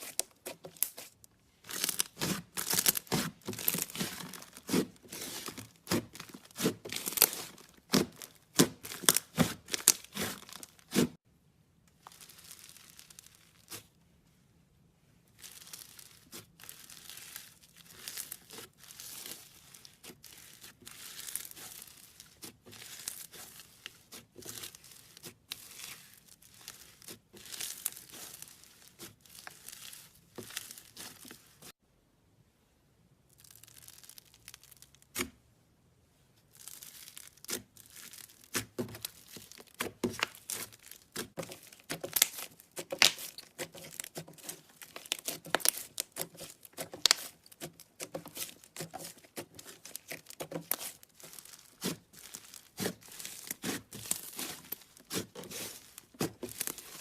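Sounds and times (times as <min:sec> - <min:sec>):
slime crackling and popping: 0:00.0 - 0:11.2, 0:12.0 - 0:13.9, 0:15.3 - 0:31.7, 0:33.3 - 0:35.3, 0:36.5 - 0:57.0.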